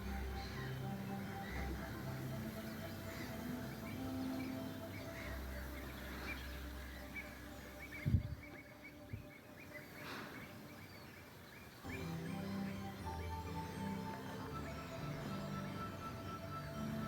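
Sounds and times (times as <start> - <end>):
short bird calls: 0.0 - 16.5.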